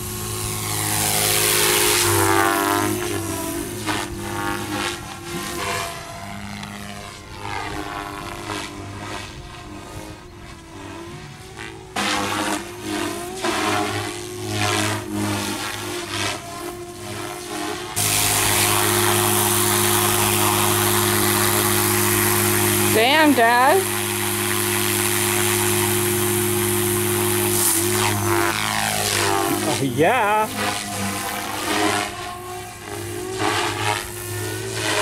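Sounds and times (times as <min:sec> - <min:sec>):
rc helicopter motor whining: 0:00.0 - 0:35.0
rotor blades rushing: 0:00.0 - 0:35.0.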